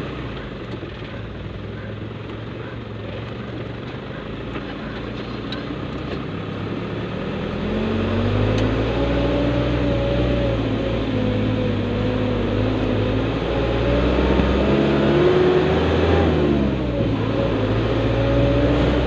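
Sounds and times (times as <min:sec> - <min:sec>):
road noise: 0:00.0 - 0:19.0
truck engine: 0:00.0 - 0:19.0.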